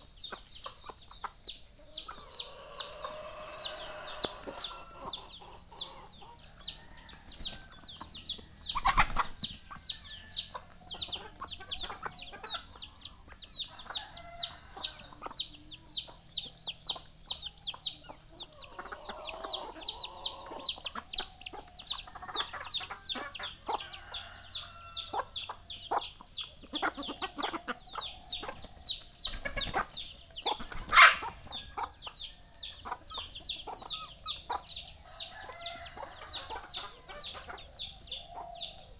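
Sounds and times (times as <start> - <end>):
chickens clucking: 0.0 - 38.9
chicks peeping: 0.0 - 38.9.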